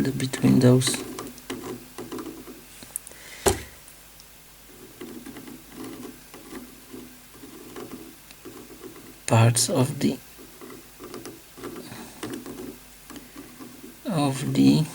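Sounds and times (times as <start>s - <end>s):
hand rubbing and scraping: 0.0s - 4.0s, 4.6s - 14.9s.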